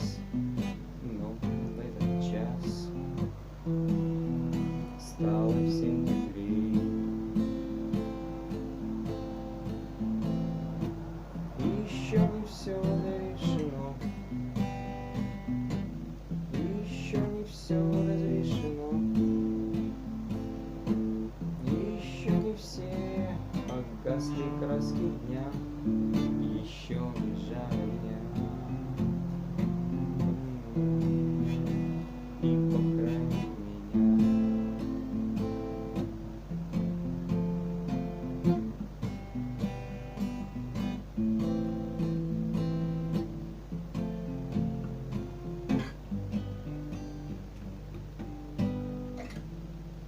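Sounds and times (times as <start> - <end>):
acoustic guitar strumming chords: 0.0 - 50.0.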